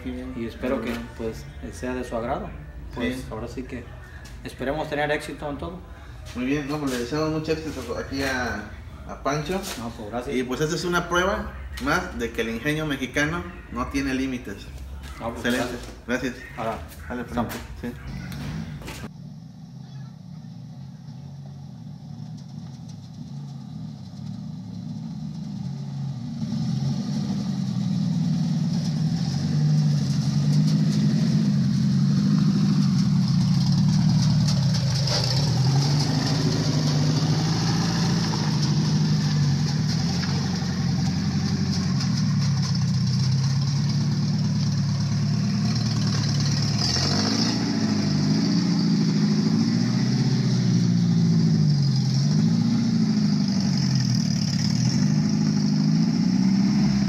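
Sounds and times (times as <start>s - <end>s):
tractor engine driving past: 10.1s - 57.0s.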